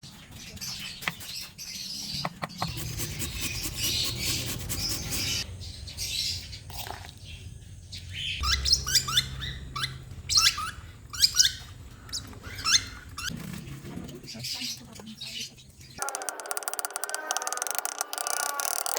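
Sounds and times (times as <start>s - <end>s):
lovebirds chirping and chattering: 0.0s - 16.1s.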